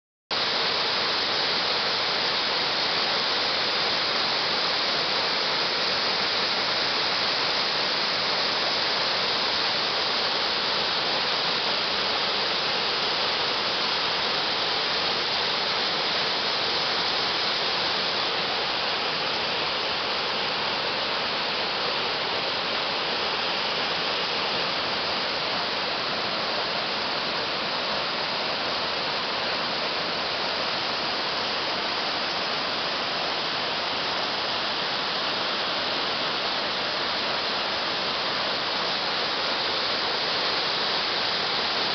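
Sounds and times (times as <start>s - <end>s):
waterfall rushing: 0.3s - 41.9s.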